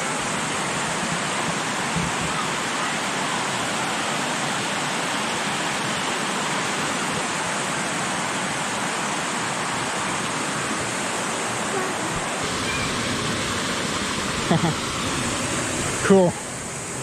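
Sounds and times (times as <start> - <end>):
waterfall pouring into pool: 0.0 - 17.0.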